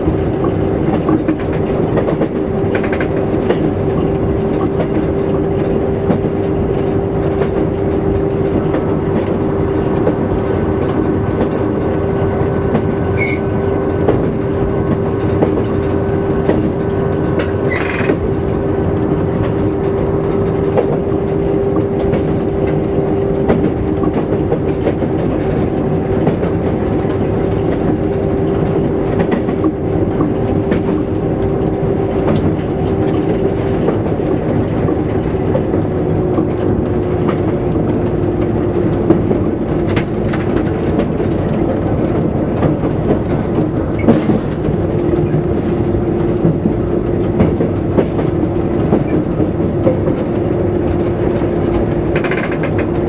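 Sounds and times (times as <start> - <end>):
train running noise: 0.0 - 53.0
wheels clicking over rail joints: 0.0 - 53.0.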